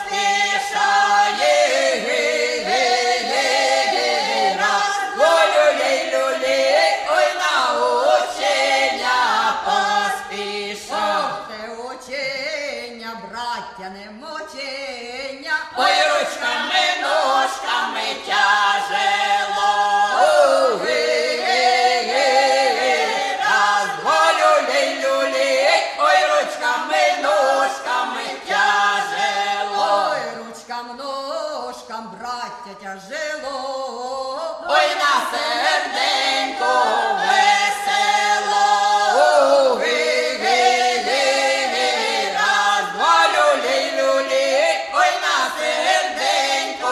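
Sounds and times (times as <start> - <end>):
choir singing unaccompanied: 0.0 - 12.6, 15.7 - 30.7, 33.4 - 46.9.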